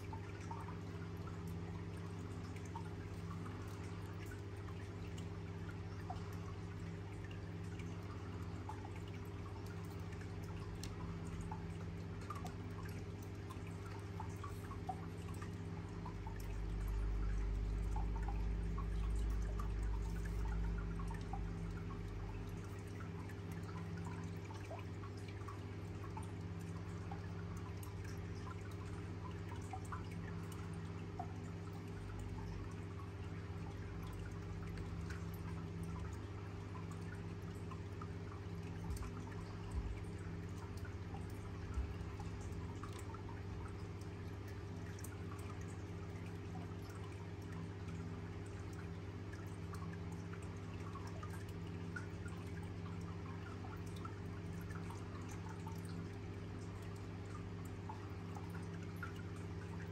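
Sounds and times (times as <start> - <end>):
electrical hum: 0.0 - 59.9
water dripping and trickling: 0.0 - 59.9.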